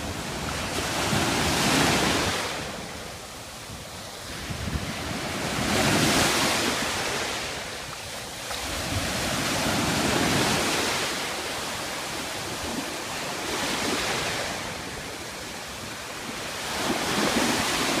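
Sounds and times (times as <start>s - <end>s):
waves breaking and washing in: 0.0s - 18.0s.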